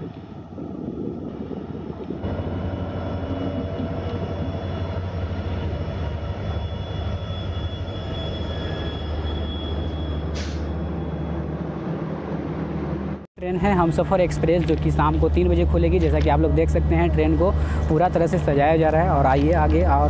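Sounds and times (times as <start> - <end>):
diesel locomotive idling: 2.2 - 20.0.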